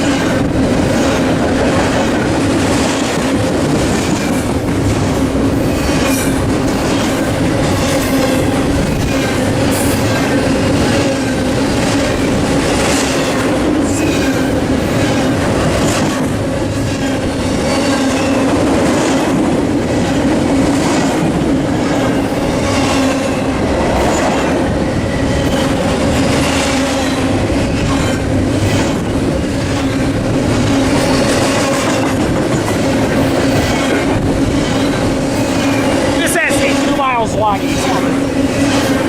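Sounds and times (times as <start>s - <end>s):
train hum: 0.0s - 39.0s
wheels roaring on rail: 0.0s - 39.0s.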